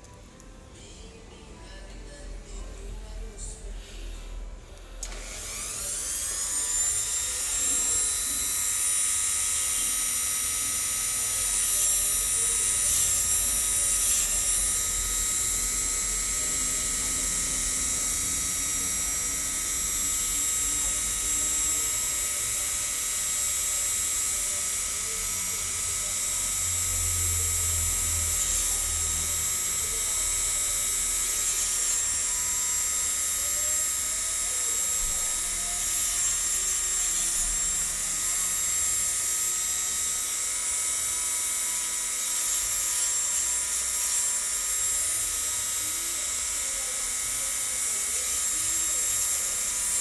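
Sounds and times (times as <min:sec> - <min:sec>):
electric hand grinder whining: 0:05.0 - 0:50.0.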